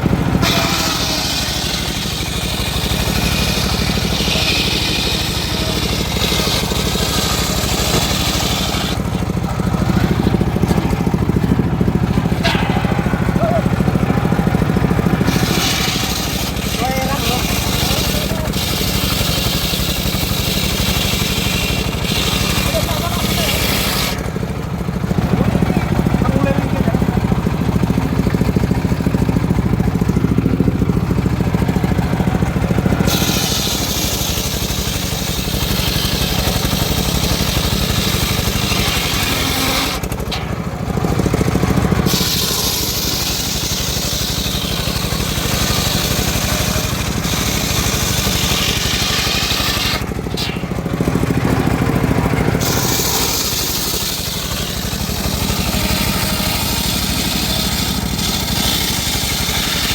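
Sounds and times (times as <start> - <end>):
circular saw engine hum: 0.0 - 59.9
saw blade ripping through wood: 0.2 - 24.4, 31.5 - 59.9.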